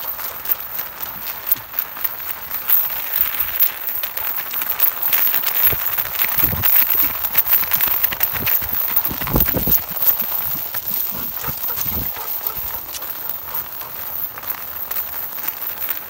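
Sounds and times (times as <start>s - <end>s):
footsteps and harness jostling: 0.0s - 16.0s.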